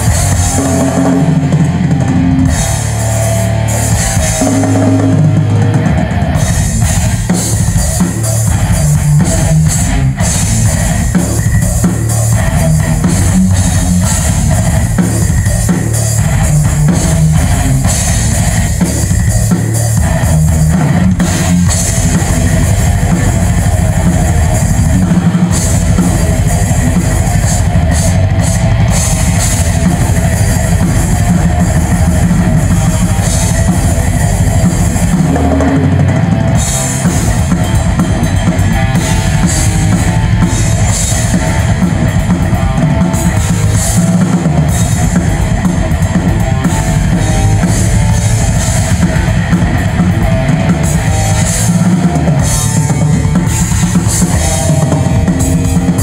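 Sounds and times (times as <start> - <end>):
drum kit played loud: 0.0 - 56.0.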